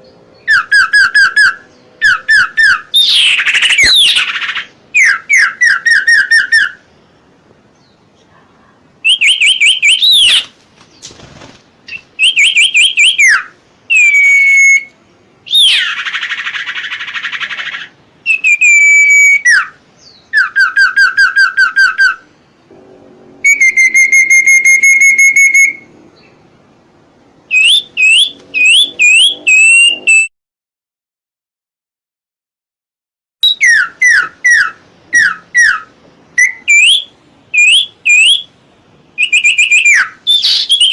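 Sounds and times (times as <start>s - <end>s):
songbird whistled song: 0.0s - 7.0s, 9.0s - 11.2s, 11.9s - 22.3s, 23.4s - 26.4s, 27.5s - 30.3s, 33.4s - 40.9s.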